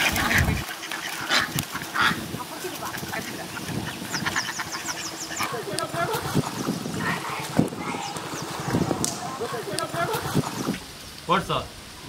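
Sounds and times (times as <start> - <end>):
ducks quacking harshly: 0.0 - 10.9
water splashing: 0.0 - 11.2.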